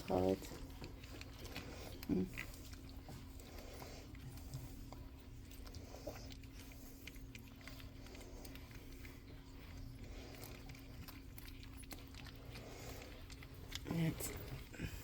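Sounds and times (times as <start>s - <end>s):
puppies suckling: 0.0s - 15.0s
steady low hum: 0.0s - 15.0s.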